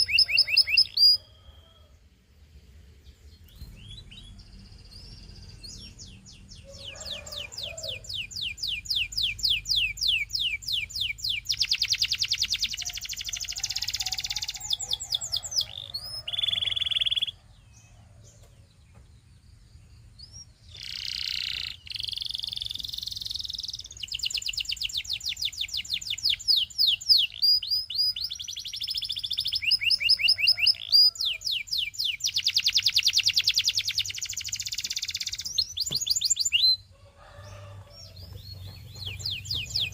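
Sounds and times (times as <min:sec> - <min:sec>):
canary singing trills: 0:00.0 - 0:01.8, 0:03.0 - 0:18.8, 0:19.6 - 0:39.9.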